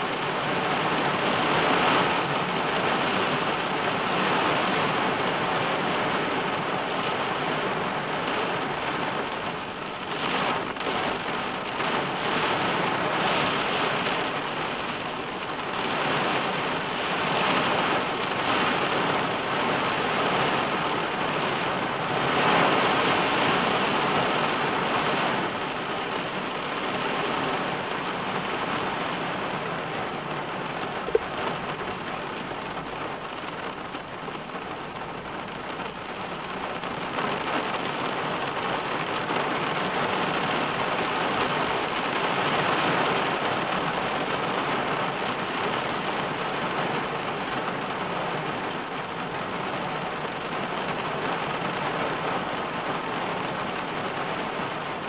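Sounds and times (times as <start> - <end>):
heavy rain on car roof: 0.0 - 55.0.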